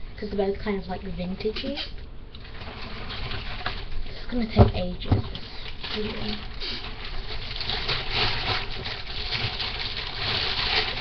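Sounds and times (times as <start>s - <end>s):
rustling handling noise: 1.4s - 11.0s.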